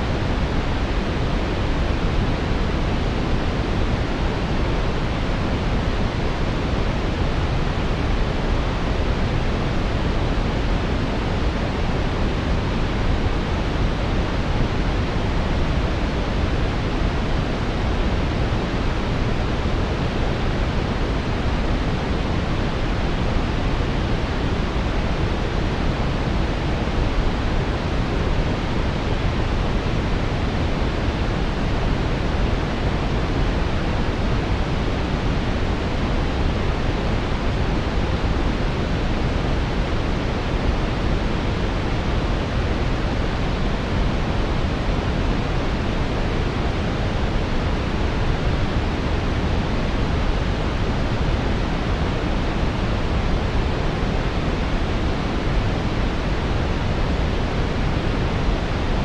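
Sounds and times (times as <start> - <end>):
deep rushing brown noise: 0.0 - 59.0.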